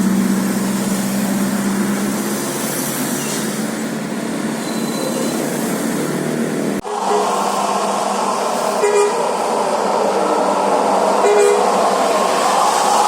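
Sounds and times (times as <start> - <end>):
bus engine: 0.0 - 13.0
road traffic noise: 0.0 - 13.0.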